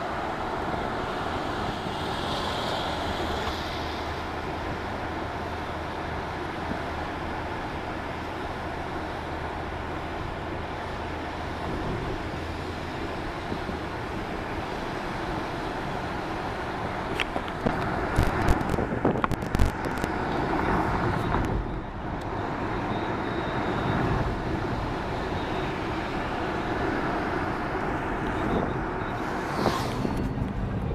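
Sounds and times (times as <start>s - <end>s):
vehicle road and engine noise: 0.0s - 30.9s.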